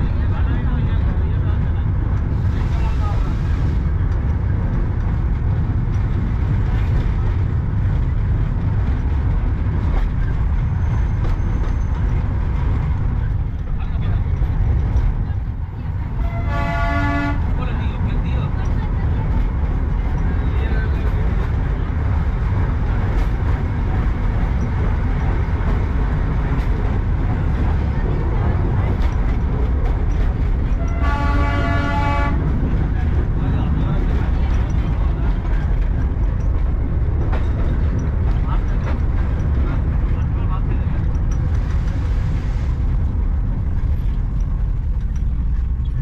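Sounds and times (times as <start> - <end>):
train rumbling on track: 0.0 - 46.0.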